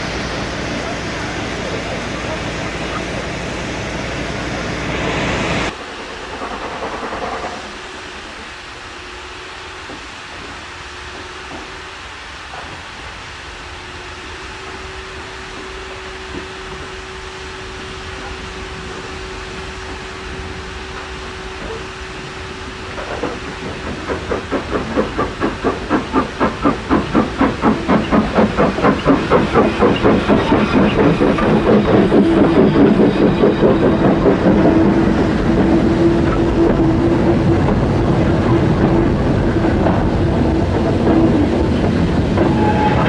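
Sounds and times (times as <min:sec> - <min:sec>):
steam locomotive exhaust beats: 0:00.0 - 0:43.0
train rumble with held tone: 0:00.0 - 0:43.0.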